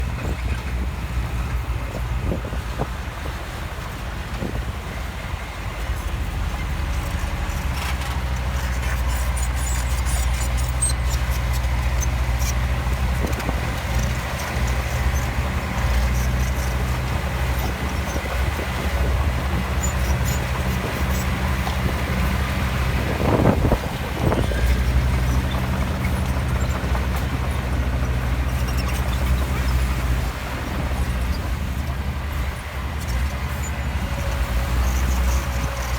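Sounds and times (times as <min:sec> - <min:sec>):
diesel engine droning: 0:00.0 - 0:35.9.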